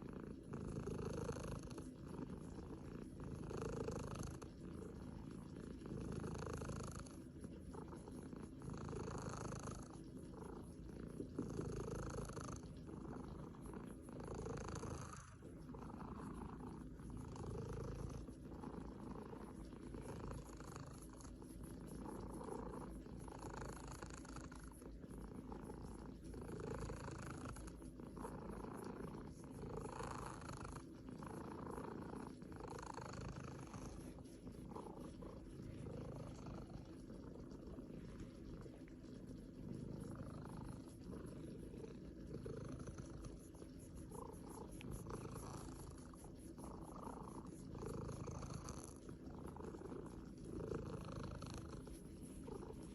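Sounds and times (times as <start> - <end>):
cat purring: 0.0 - 52.9.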